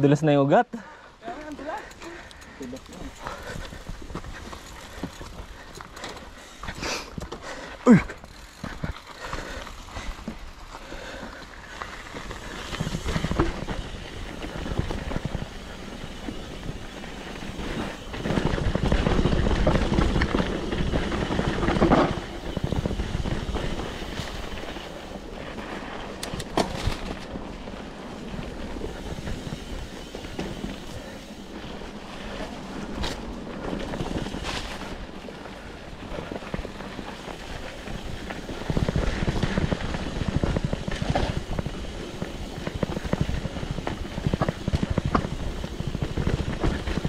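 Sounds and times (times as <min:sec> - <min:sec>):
bike tyres on rough dirt trail: 0:00.1 - 0:47.0
bike rattling: 0:00.8 - 0:47.0.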